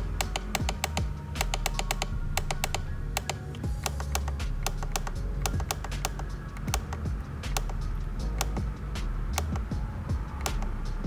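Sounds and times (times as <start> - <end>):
buttons clicking: 0.0 - 8.7, 9.4 - 9.8, 10.4 - 10.9
background music with bass: 0.0 - 11.0.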